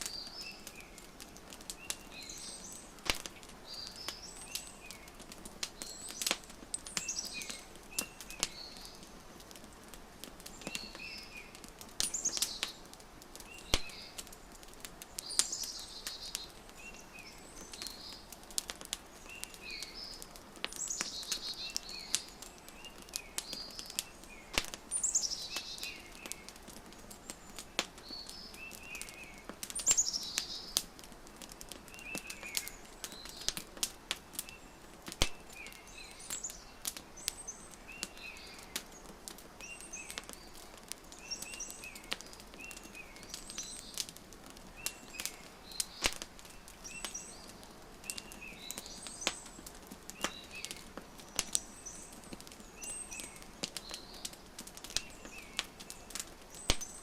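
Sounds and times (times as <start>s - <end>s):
small birds chirping: 0.0s - 57.0s
wood fire crackling: 0.0s - 57.0s.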